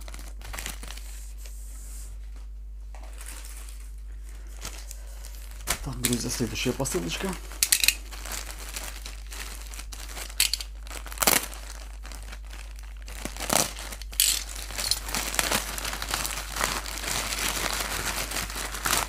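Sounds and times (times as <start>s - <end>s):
plastic bag crinkling: 0.0s - 1.4s, 2.9s - 19.0s
plastic ripping: 0.0s - 1.5s, 3.0s - 19.0s.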